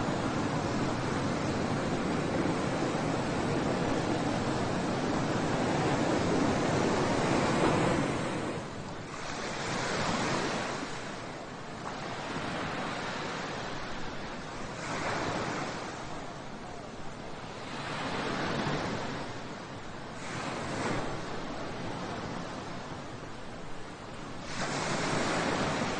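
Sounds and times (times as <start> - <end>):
sea waves washing onto shore: 0.0 - 25.9
wind: 0.0 - 25.9.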